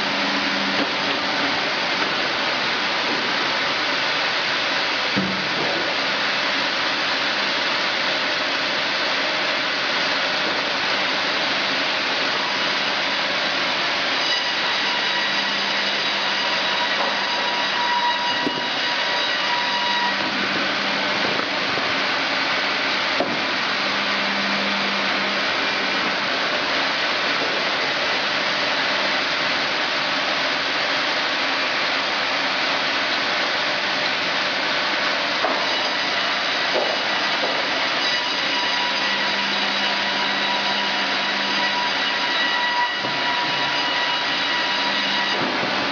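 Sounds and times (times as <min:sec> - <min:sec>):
band saw cutting log: 0:00.0 - 0:45.9.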